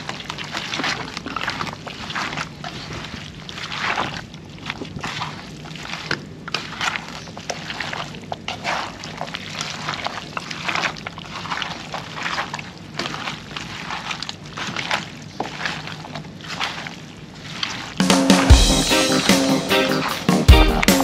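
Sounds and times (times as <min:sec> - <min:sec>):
hands squelching raw meat: 0:00.0 - 0:21.0.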